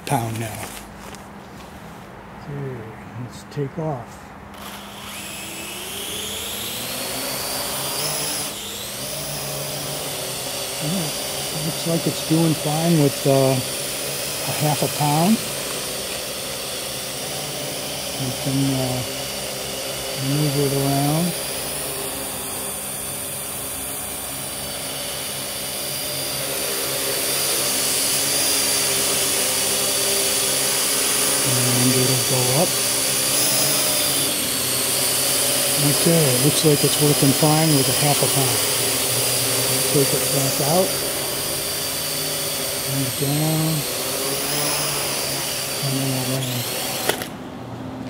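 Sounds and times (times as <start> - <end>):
drone propellers buzzing: 4.5 - 48.0.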